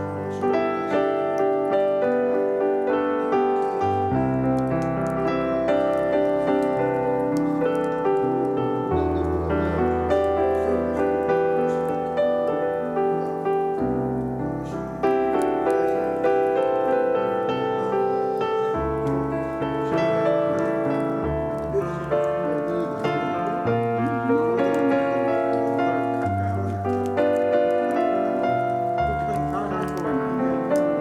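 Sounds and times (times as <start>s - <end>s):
slow piano music: 0.0s - 31.0s.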